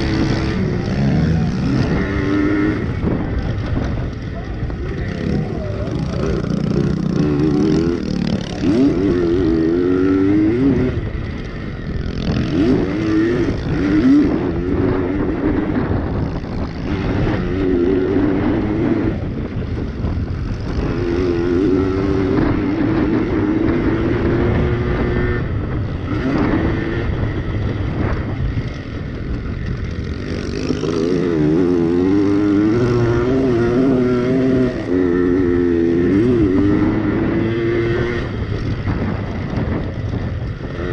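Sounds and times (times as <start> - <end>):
pit bike engines revving: 0.0 - 40.9.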